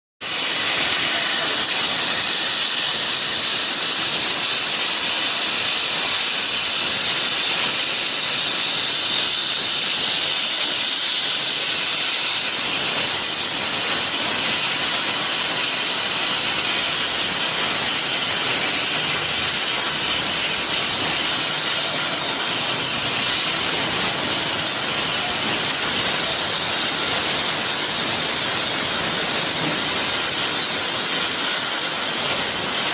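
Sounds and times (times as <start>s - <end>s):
plasma cutter hissing: 0.2s - 32.9s.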